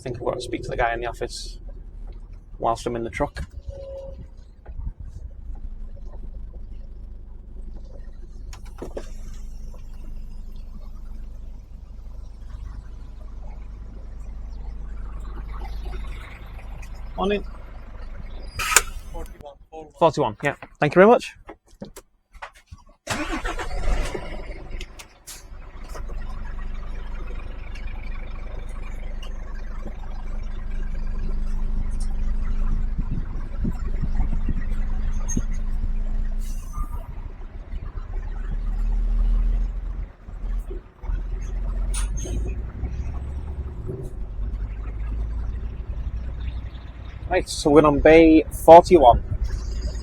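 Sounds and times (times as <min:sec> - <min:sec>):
lorry engine rumbling: 0:00.0 - 0:19.6, 0:23.1 - 0:50.0.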